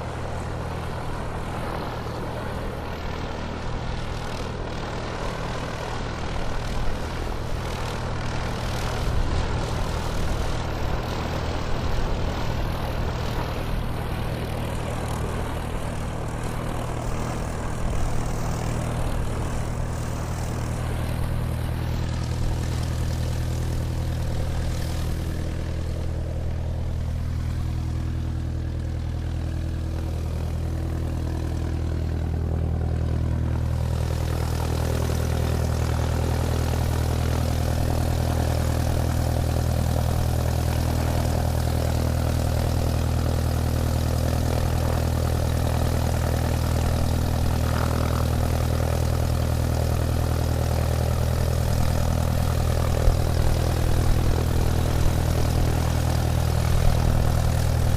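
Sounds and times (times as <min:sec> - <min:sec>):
airplane engine hum: 0:00.0 - 0:57.9.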